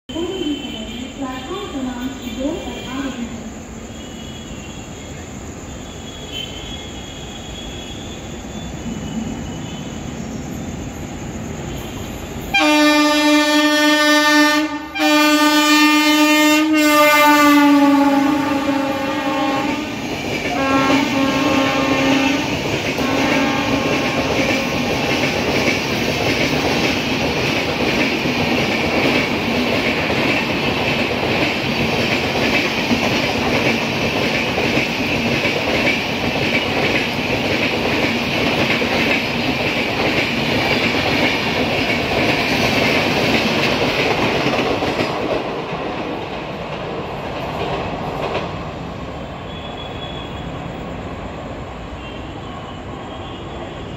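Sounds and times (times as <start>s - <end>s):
train passing at speed: 0.1s - 53.9s.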